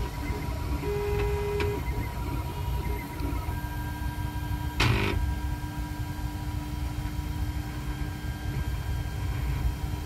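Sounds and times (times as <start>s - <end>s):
printer stepper motors whining: 0.0s - 10.0s.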